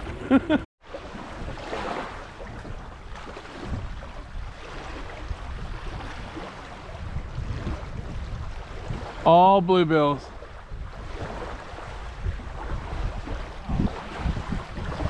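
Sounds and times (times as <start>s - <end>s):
water noise: 0.0s - 15.0s
wind rushing over microphone: 1.3s - 15.0s.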